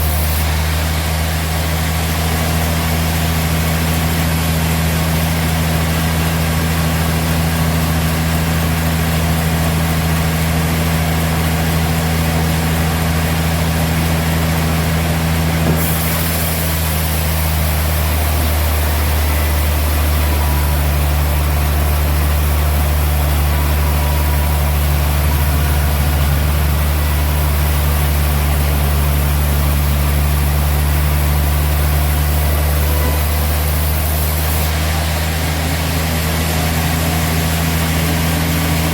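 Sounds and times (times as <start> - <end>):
sawmill machinery hum: 0.0 - 38.9.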